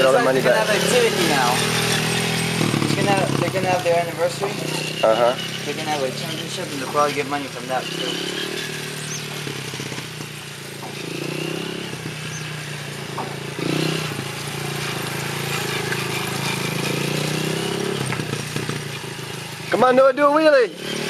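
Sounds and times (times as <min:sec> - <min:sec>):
high engine whine: 0:00.0 - 0:19.8
motorcycle engine revving: 0:00.0 - 0:21.0.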